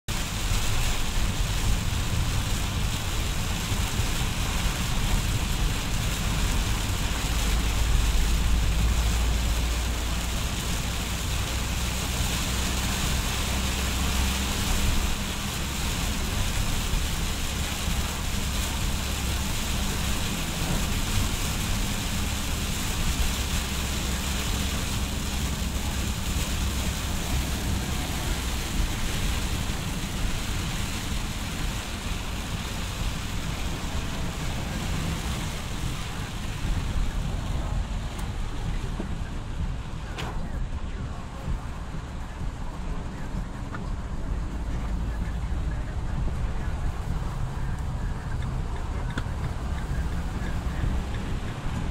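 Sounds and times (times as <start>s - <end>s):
engine and road rumble: 0.0s - 51.9s
heavy rain on car roof: 0.0s - 51.9s.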